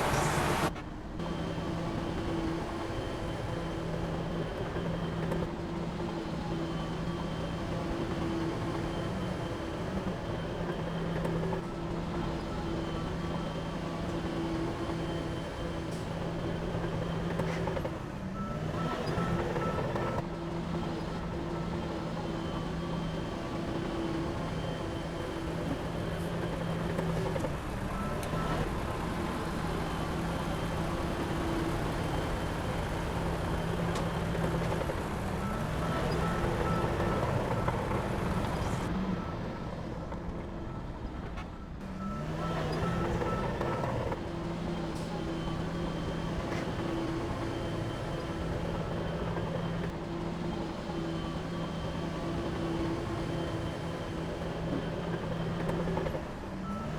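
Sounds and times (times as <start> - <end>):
diesel machinery running: 0.0 - 56.9.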